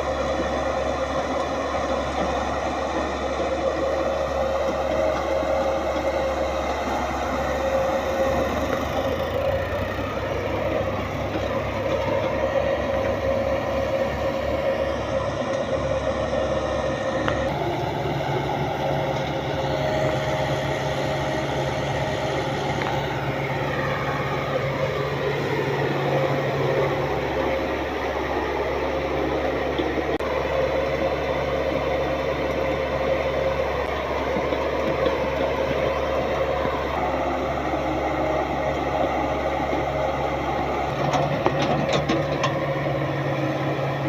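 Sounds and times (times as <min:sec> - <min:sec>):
heavy machine engine running: 0:00.0 - 0:44.0.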